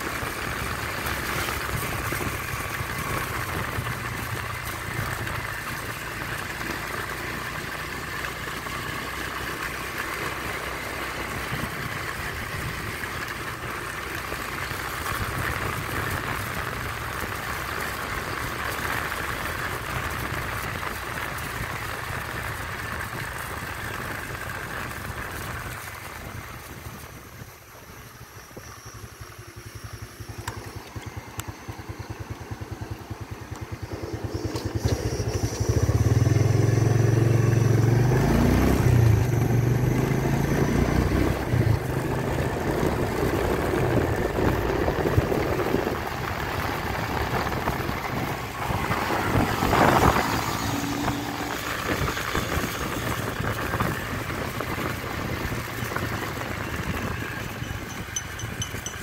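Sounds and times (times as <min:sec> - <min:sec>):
motorcycle engine running: 0:00.0 - 0:59.0
road and wind rush: 0:00.0 - 0:59.0.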